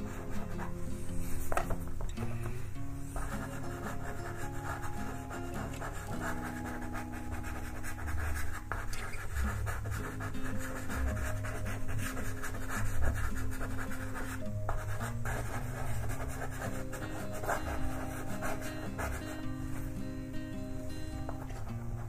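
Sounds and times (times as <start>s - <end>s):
pastel scratching on paper: 0.0s - 1.8s, 3.1s - 19.9s
background music with held chords: 0.0s - 22.0s.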